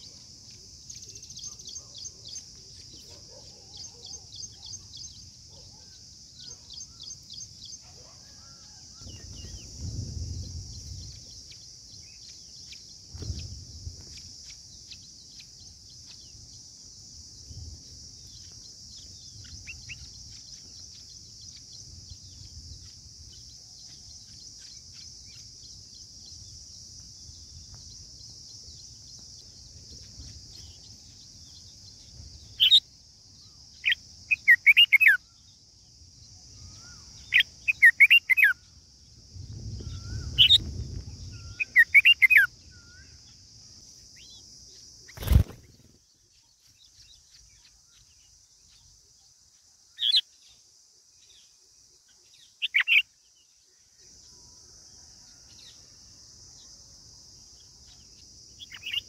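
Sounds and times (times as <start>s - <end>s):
birds chirping: 0.0s - 17.2s, 18.2s - 35.6s, 36.2s - 38.8s, 39.5s - 49.3s, 57.5s - 59.0s.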